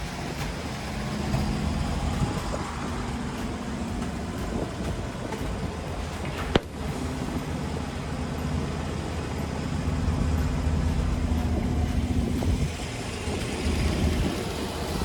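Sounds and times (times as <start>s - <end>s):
gas engine running: 0.0s - 15.0s.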